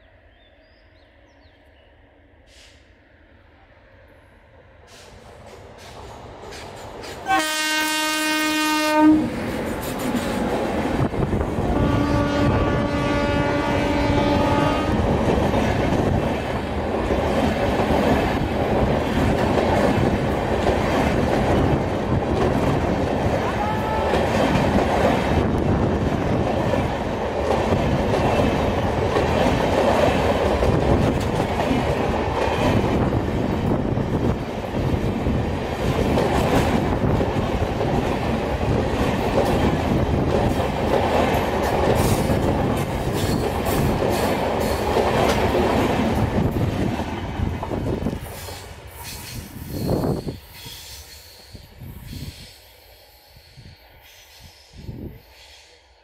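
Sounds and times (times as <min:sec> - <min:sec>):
train wheels rumbling on rails: 0:04.7 - 0:56.0.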